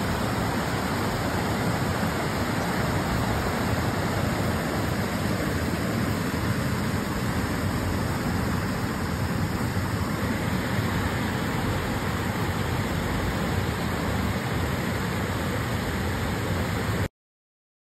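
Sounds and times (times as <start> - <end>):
river rushing over rocks: 0.0 - 17.1.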